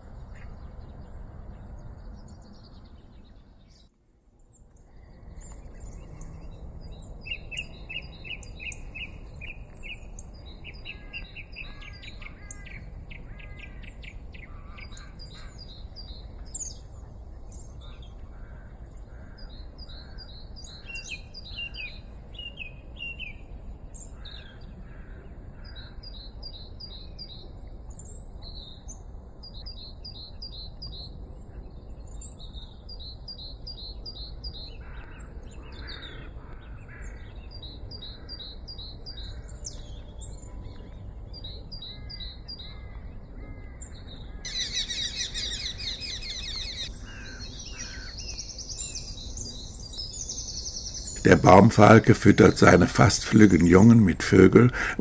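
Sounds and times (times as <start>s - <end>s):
small birds singing: 0.0s - 55.0s.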